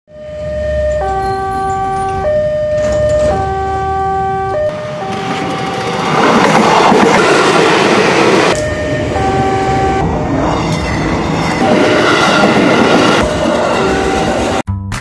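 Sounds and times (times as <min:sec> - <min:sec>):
level crossing alarm tones: 0:00.1 - 0:14.6
electric train passing: 0:00.2 - 0:14.6.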